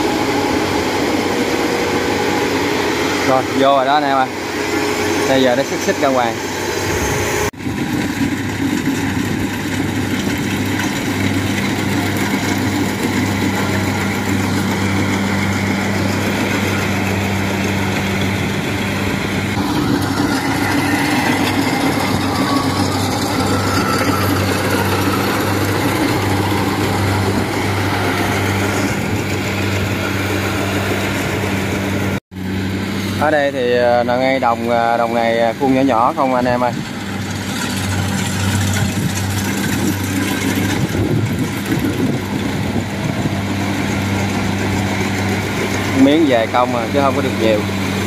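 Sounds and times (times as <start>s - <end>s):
combine harvester engine hum: 0.0s - 48.0s
threshing machinery clatter: 0.0s - 48.0s.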